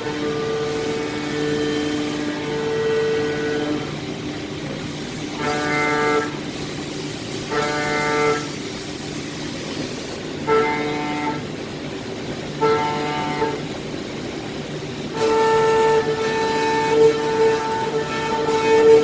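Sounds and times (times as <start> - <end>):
machine running noise: 0.0 - 19.0.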